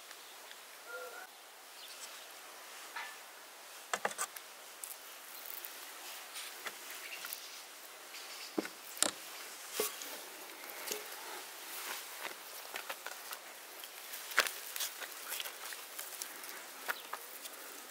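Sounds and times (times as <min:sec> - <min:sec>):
faint steady hiss: 0:00.0 - 0:17.9.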